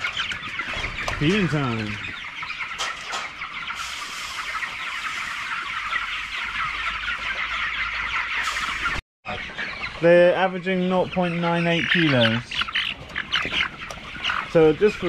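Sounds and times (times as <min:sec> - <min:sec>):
chickens cheeping and clucking: 0:00.0 - 0:15.0.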